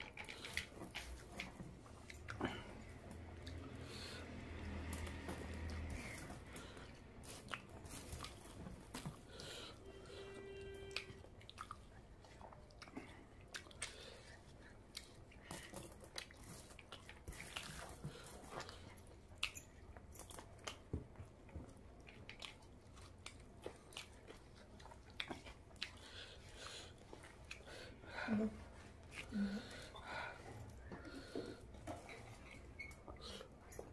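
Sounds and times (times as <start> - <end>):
chewing food: 0.0 - 10.2, 10.9 - 33.9.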